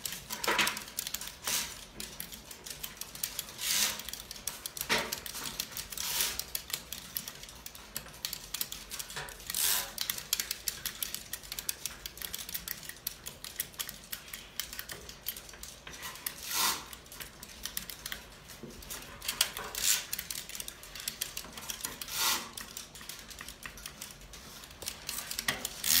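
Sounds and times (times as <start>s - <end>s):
abacus beads clicking: 0.0s - 26.0s.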